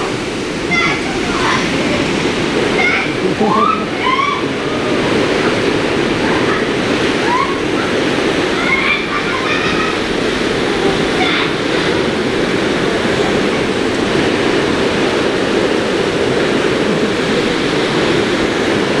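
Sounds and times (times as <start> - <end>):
heavy rain on a tent roof: 0.0 - 19.0.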